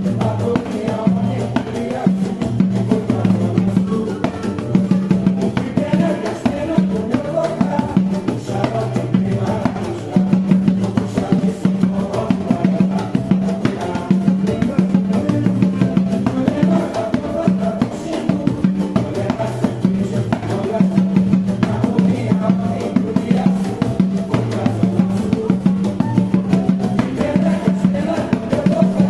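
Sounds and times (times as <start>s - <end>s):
busy percussion: 0.0s - 29.0s
low bass line: 0.0s - 29.0s.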